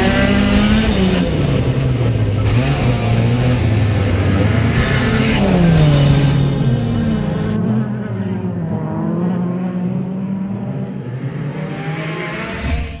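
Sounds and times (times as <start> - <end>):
race car engine running: 0.0 - 13.0.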